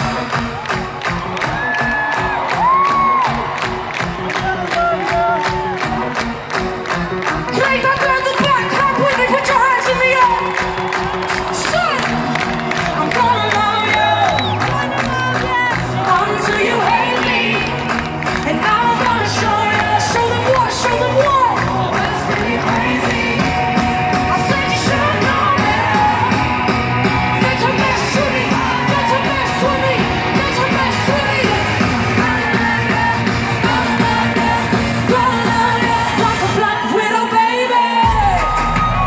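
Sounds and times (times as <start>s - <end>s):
live pop music over loudspeakers: 0.0s - 39.0s
singer's voice: 7.3s - 39.0s.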